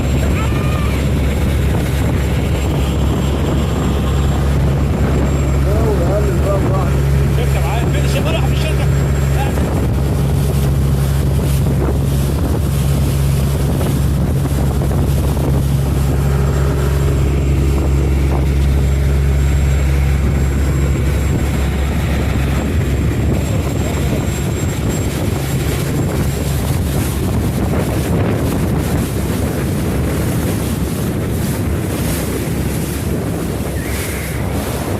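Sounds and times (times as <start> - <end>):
boat engine droning: 0.0 - 34.9
wind buffeting microphone: 0.0 - 34.9.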